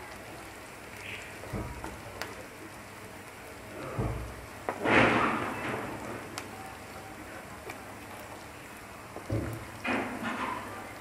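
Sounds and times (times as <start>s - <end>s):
onions sizzling in a frying pan: 0.0s - 11.0s.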